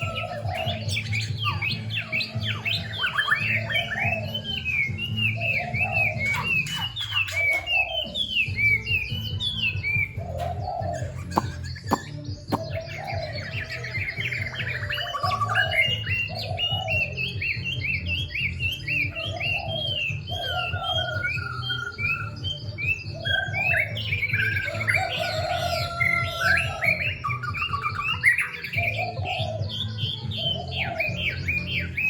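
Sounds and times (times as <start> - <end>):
songbird singing fast notes: 0.0 - 32.0.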